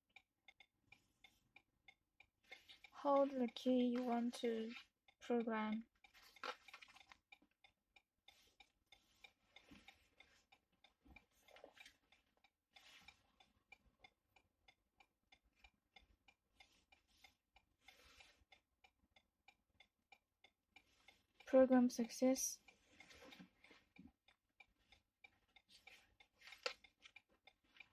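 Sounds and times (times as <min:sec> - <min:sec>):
hazard flasher ticking: 0:00.0 - 0:27.9.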